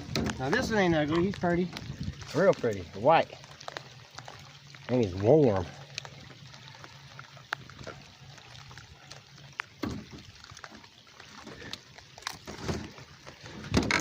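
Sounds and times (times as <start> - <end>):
water sloshing against boat: 0.0 - 14.0.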